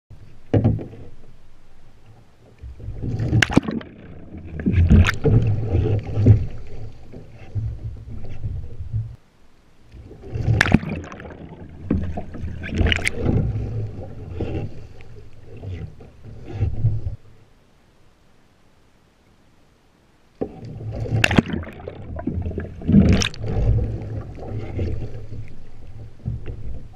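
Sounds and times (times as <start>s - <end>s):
paddle splashing water: 0.1s - 9.2s, 9.8s - 17.4s, 20.4s - 26.9s
water rumbling against hull: 0.1s - 18.6s, 19.8s - 26.9s.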